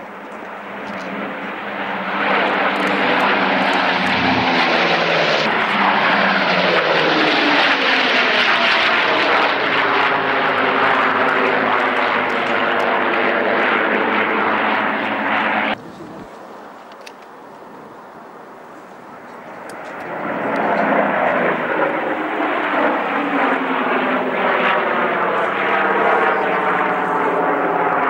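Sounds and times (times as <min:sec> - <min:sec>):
propeller planes flying past: 0:00.0 - 0:28.0.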